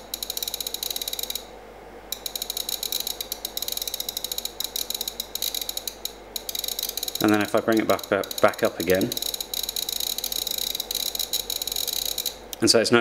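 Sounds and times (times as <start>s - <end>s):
knob clicking rapidly: 0.0s - 1.4s, 2.2s - 12.6s.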